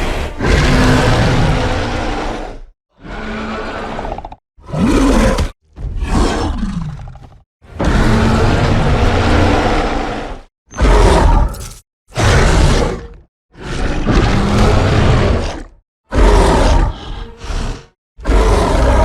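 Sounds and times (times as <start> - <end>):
creature roaring and growling: 0.0 - 19.0.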